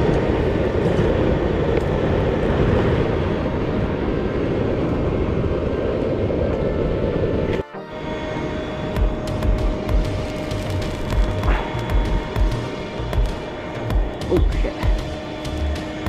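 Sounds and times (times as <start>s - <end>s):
forge rushing noise: 0.0s - 16.0s.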